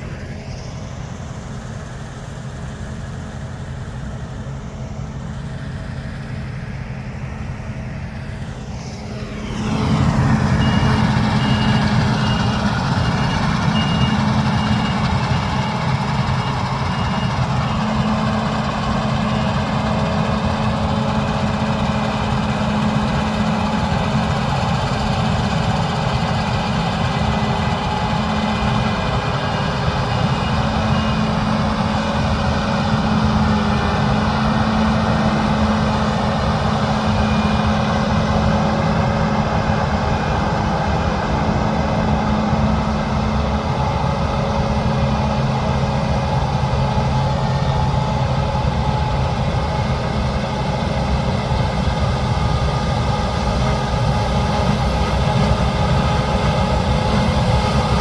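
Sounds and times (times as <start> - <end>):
large diesel engine running: 0.0 - 58.0
mechanical whine: 0.0 - 58.0.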